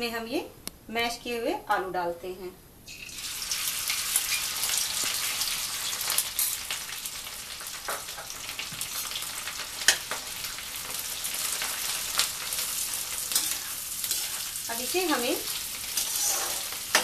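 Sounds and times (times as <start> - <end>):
potatoes sizzling in hot fat: 2.9 - 17.0.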